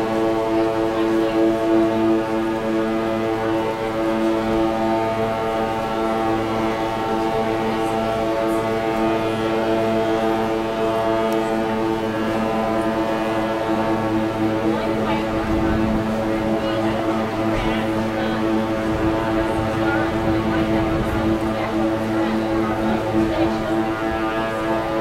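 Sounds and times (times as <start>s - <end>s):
ship horn long blast: 0.0s - 25.0s.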